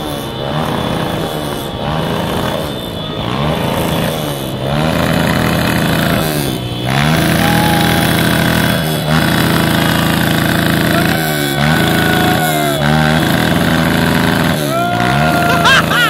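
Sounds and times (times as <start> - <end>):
small motorcycle engine revving: 0.0 - 16.0.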